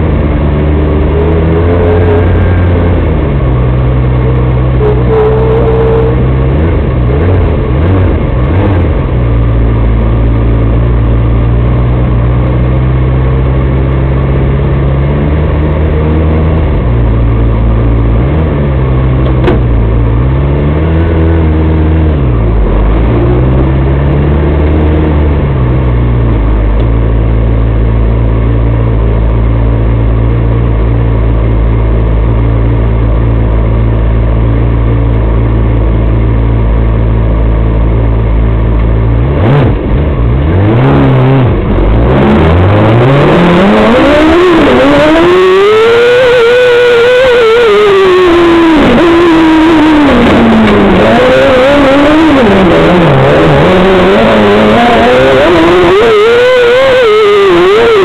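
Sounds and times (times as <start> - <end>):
buggy engine idling and revving: 0.0 - 58.0.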